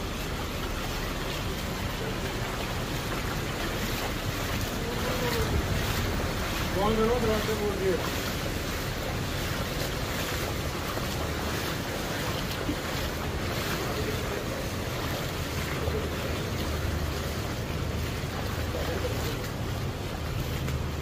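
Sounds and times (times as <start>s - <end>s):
footsteps splashing through water: 0.0s - 21.0s
steady wash of noise: 0.0s - 21.0s.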